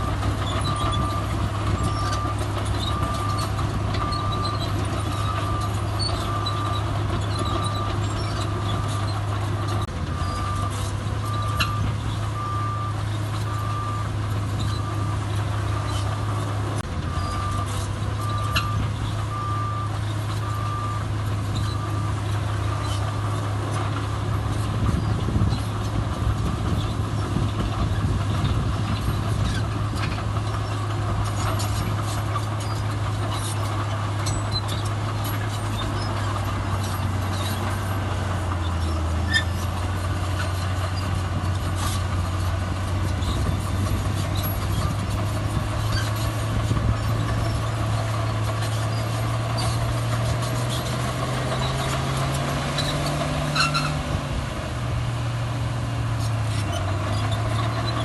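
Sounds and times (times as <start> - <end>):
diesel machine engine running: 0.0 - 58.0.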